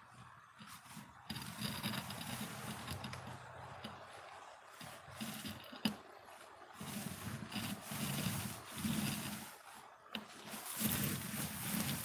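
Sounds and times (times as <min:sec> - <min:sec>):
paint roller wet rubbing: 0:00.4 - 0:12.0.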